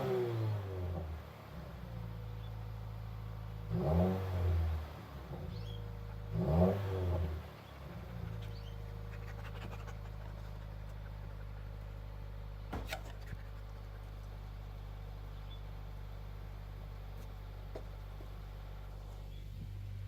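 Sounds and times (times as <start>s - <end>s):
car exhaust revving and idling: 0.0s - 20.0s.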